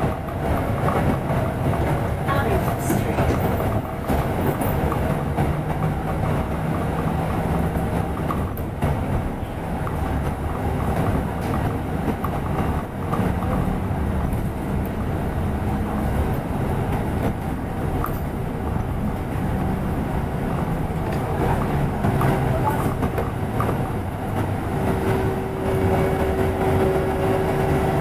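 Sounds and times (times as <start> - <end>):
bus engine drone: 0.0 - 28.0
road rumble: 0.0 - 28.0.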